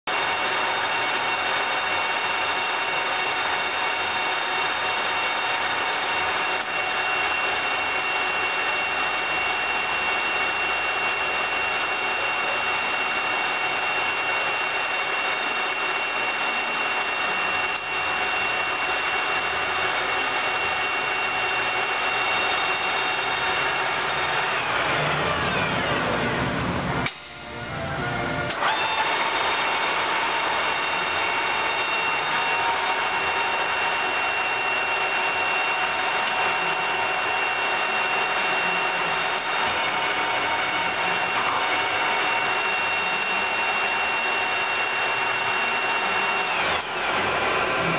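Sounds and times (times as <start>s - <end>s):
lathe gears whining: 0.1s - 47.9s.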